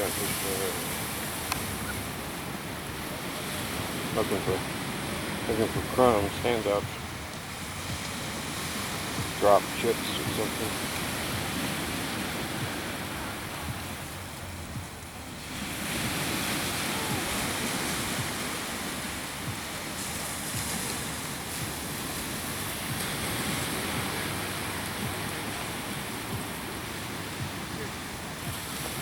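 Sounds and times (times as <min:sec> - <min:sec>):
ocean surf washing ashore: 0:00.0 - 0:29.0
wind: 0:00.0 - 0:29.0.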